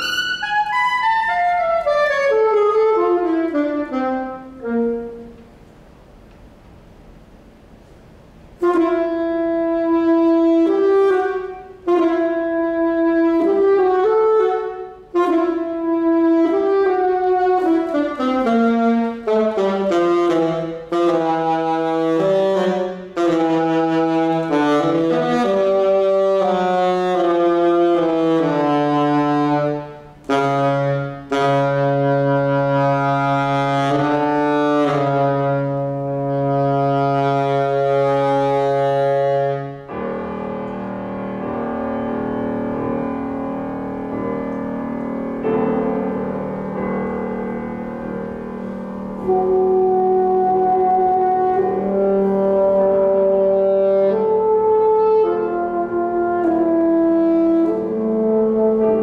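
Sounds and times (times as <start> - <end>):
saxophone playing: 0.0 - 5.6, 8.6 - 59.0
soft held chords: 0.0 - 59.0.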